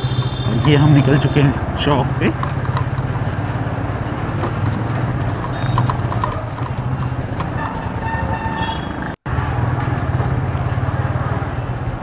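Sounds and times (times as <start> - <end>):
motorcycle engine running: 0.0 - 12.0
street traffic: 0.0 - 12.0.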